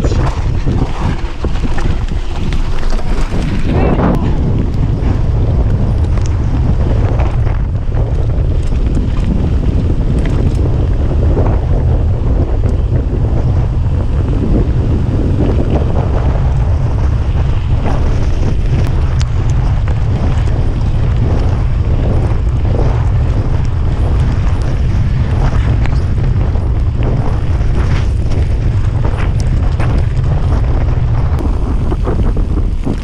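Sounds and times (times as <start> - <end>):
bike clicks and rattles: 0.0 - 33.0
tyres rumbling on wet track: 0.0 - 33.0
wind buffeting microphone: 0.0 - 33.0.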